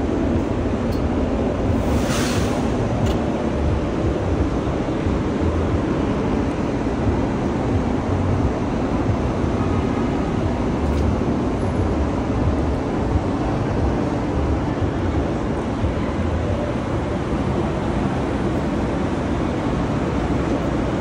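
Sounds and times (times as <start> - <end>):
subway train running: 0.0 - 21.0.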